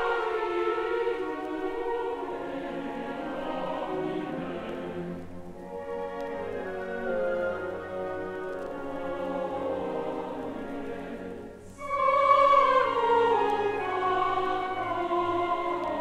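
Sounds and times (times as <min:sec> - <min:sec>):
choir and orchestra on vinyl: 0:00.0 - 0:16.0.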